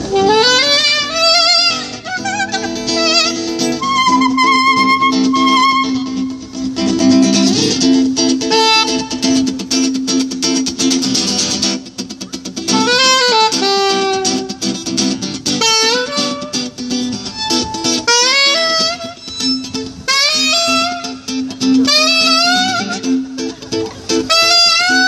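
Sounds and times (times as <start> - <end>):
sliding held-note melody: 0.0 - 11.3, 12.3 - 25.0
acoustic guitar strumming: 0.0 - 25.0.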